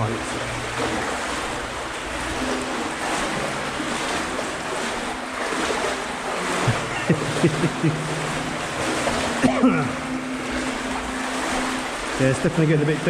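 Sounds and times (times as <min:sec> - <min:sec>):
legs wading through water: 0:00.0 - 0:13.0.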